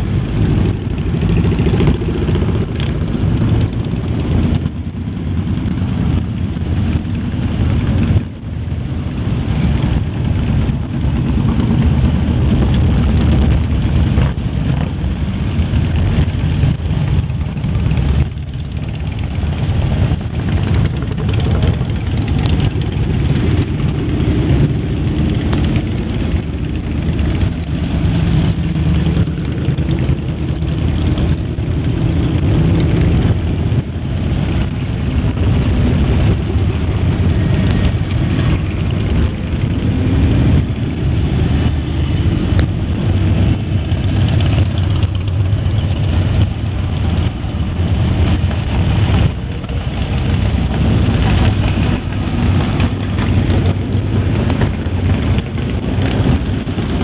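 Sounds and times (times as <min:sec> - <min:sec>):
motorcycles passing: 0:00.0 - 0:57.0.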